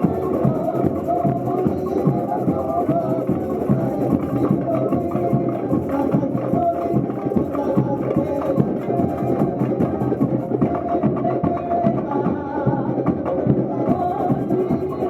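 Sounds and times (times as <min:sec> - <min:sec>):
samba music with drums: 0:00.0 - 0:15.0.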